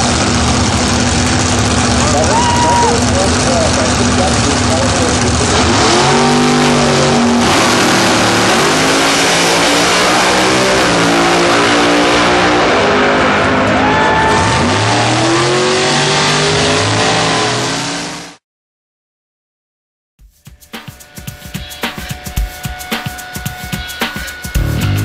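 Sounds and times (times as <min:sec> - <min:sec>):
drag racing cars at full throttle: 0:00.0 - 0:18.4, 0:21.0 - 0:25.0.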